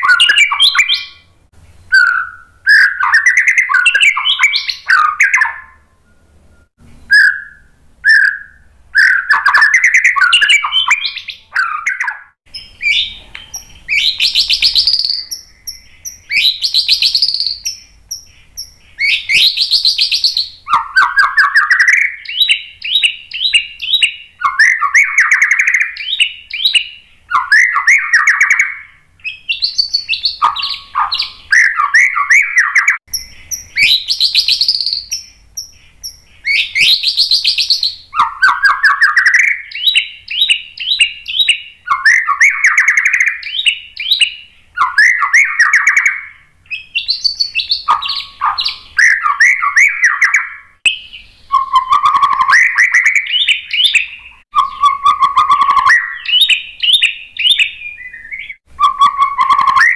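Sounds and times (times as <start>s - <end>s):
songbird singing whistles and trills: 0.0s - 59.9s.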